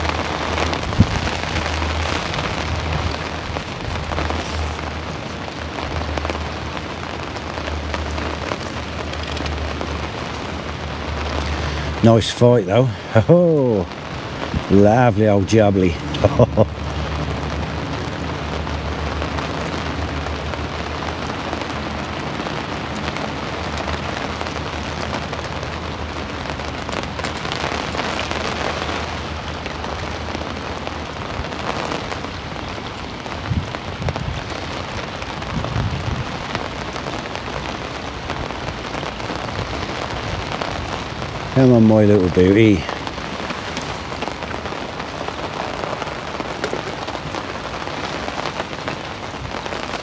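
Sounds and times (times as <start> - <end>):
rain on umbrella canopy: 0.0 - 50.0.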